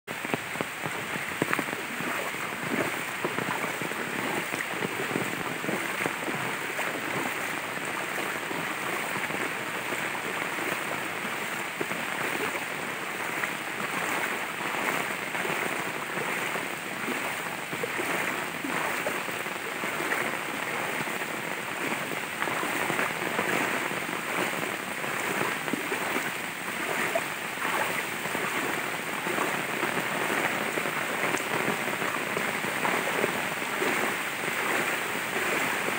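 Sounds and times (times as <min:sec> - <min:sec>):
heavy rain on water: 0:00.1 - 0:35.9.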